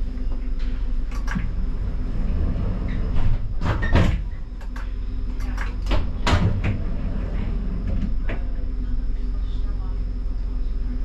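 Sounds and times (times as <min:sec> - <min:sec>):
tram cab low hum: 0:00.0 - 0:11.0.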